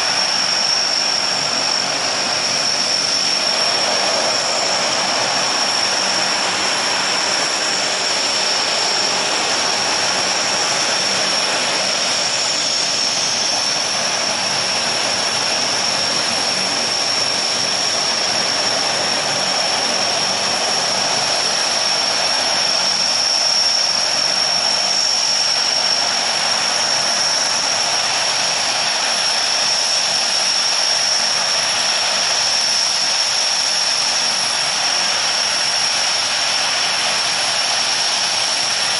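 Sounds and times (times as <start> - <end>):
high-pitched turbine whine: 0.0 - 38.9
propellers rushing: 0.0 - 38.9.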